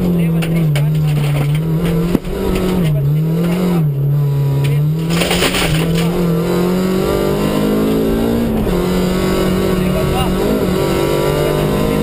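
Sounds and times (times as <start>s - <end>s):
car engine revving from inside: 1.4s - 12.0s.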